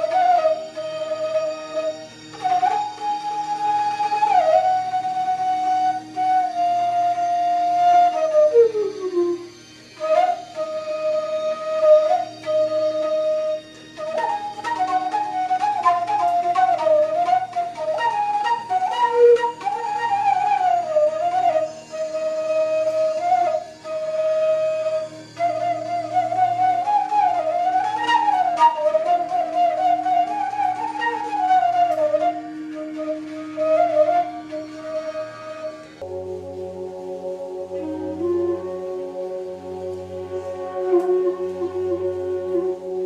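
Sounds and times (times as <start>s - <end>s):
bamboo flute melody: 0.0s - 43.0s
low drone: 0.0s - 43.0s.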